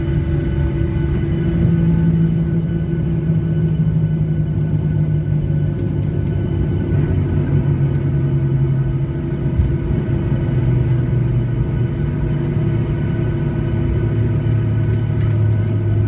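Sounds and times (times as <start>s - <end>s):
jet engines and airflow rumble: 0.0s - 16.0s
low cabin hum: 0.0s - 16.0s.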